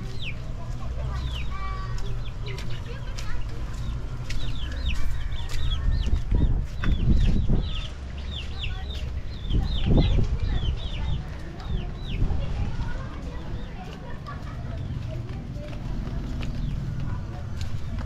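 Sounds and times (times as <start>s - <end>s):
chickens peeping: 0.0s - 15.1s.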